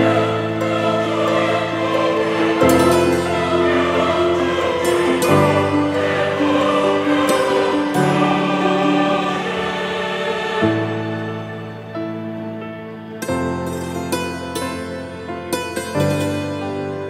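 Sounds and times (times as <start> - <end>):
background music sustained chords: 0.0 - 17.0.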